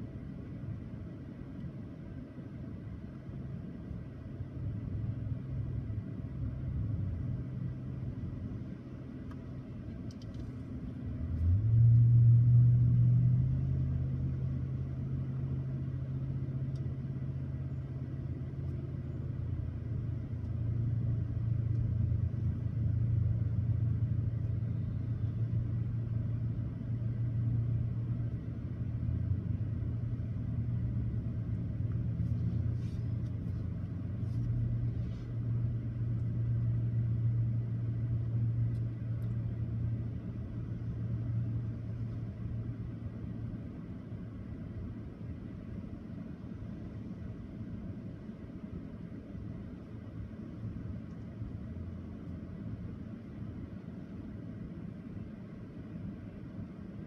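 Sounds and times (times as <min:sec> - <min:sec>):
car engine rumble from inside: 0:00.0 - 0:57.0.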